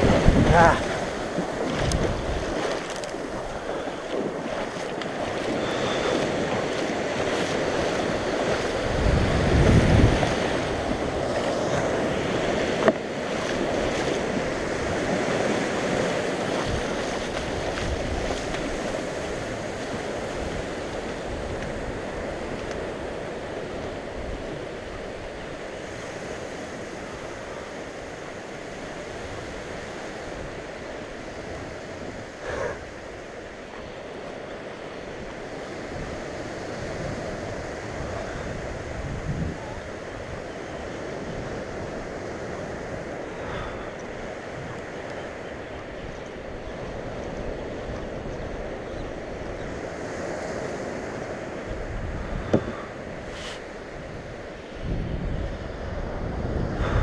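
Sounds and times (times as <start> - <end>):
small surf washing: 0.0 - 57.0.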